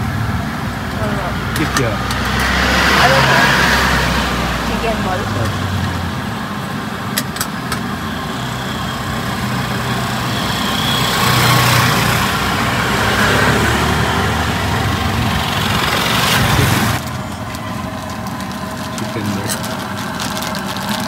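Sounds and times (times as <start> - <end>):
motor vehicle engine running: 0.0 - 21.0
street traffic: 0.0 - 21.0.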